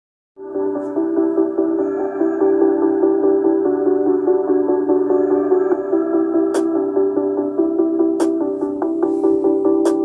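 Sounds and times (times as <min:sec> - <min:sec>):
electronic music: 0:00.4 - 0:10.0.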